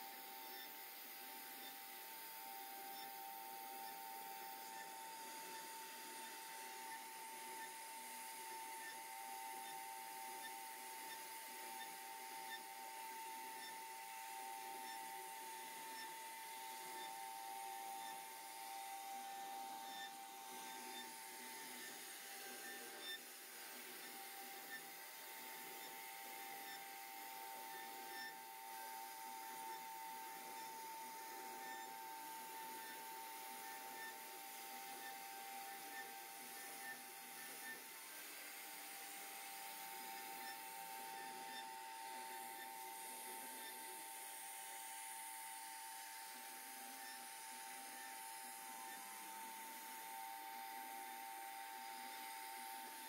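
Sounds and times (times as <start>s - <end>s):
router spindle whine: 0.0s - 53.0s.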